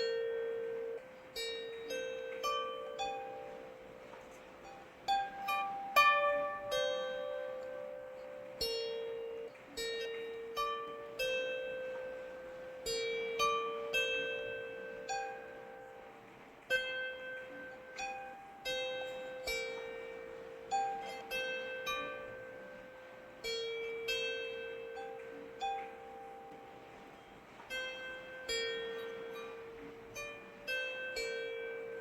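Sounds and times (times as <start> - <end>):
faint hiss of rain: 0.0 - 32.0
gentle plucked string music: 0.0 - 32.0.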